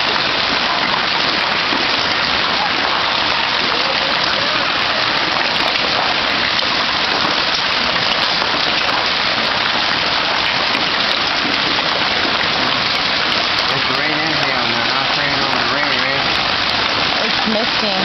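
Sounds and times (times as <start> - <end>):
hail falling on surfaces: 0.0 - 18.0.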